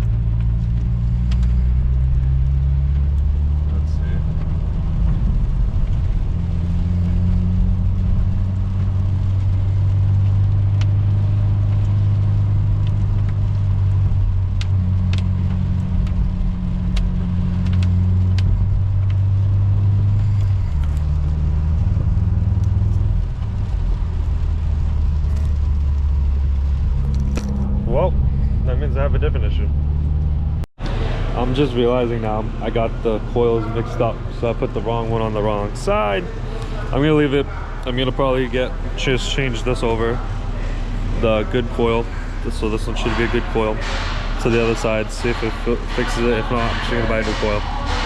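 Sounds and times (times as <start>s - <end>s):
car engine drone from cabin: 0.0s - 43.8s.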